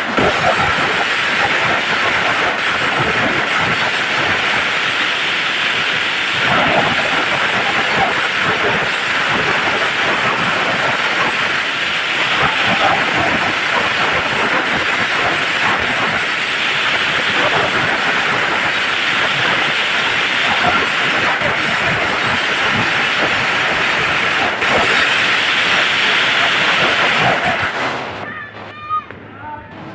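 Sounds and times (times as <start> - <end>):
string firecrackers crackling: 0.0 - 29.9.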